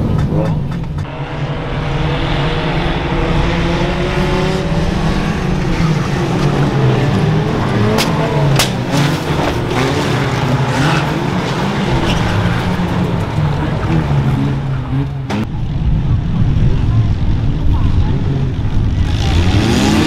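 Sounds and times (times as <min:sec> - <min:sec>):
racing car engines revving: 0:00.0 - 0:20.0.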